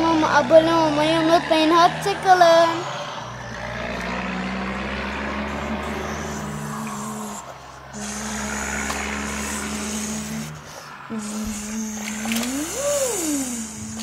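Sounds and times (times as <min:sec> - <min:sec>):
child imitating truck engine: 0:00.0 - 0:14.0.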